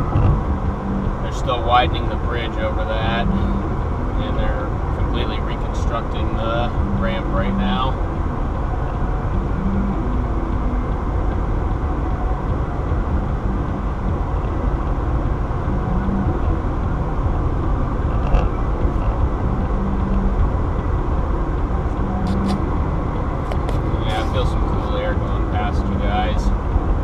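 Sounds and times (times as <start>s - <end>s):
car road and tyre noise: 0.0s - 27.0s.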